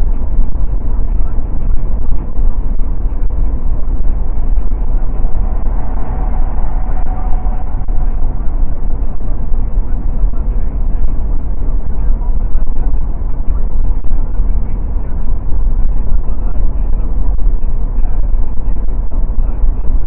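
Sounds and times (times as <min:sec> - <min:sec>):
car driving at highway speed: 0:00.0 - 0:20.0.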